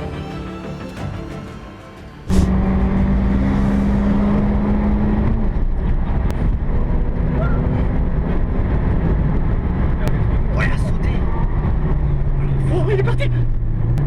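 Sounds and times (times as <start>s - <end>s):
car road and engine noise: 2.2s - 14.0s.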